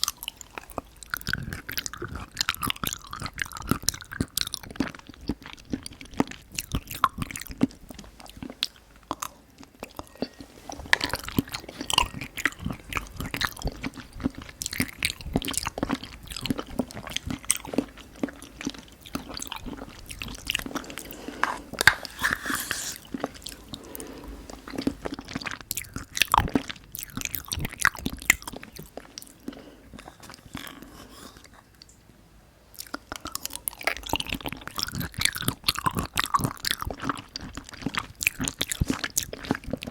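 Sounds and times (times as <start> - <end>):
wet chewing: 0.0 - 31.9, 32.8 - 39.9.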